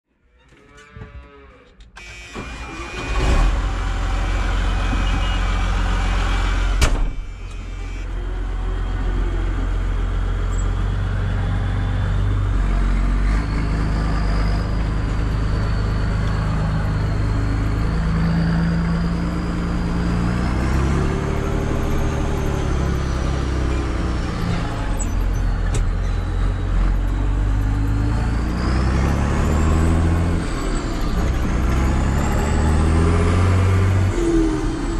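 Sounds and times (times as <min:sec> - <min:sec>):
diesel tractor engine: 0:02.0 - 0:34.9.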